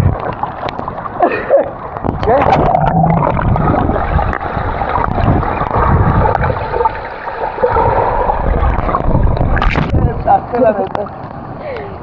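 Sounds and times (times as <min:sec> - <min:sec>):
pool water sloshing and gurgling: 0:00.0 - 0:12.0.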